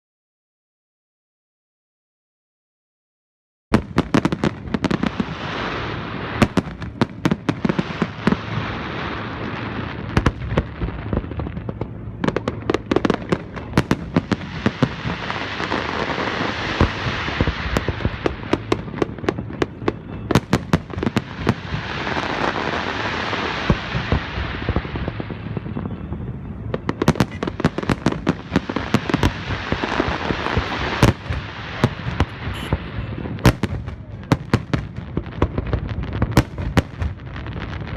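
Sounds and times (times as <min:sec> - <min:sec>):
fireworks crackle: 0:03.7 - 0:37.9.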